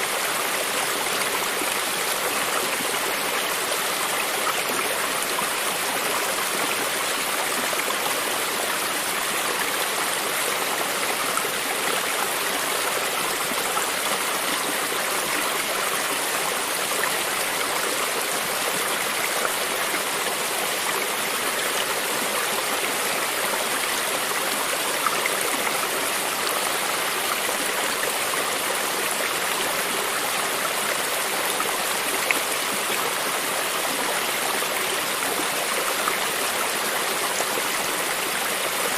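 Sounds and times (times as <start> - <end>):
stream of running water: 0.0 - 38.9.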